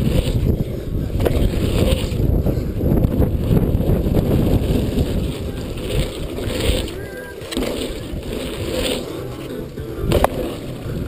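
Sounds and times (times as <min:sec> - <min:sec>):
bike tyres on dirt: 0:00.0 - 0:11.0
wind rumble on microphone: 0:00.0 - 0:11.0.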